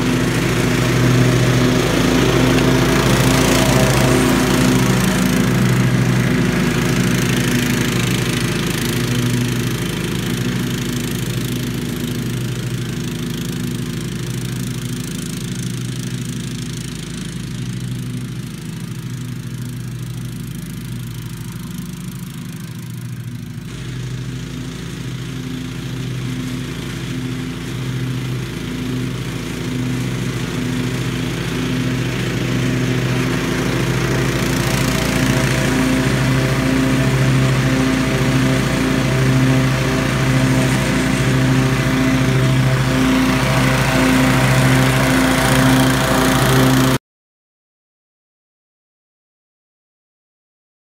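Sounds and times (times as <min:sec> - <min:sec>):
lawn mower engine running: 0:00.0 - 0:47.0.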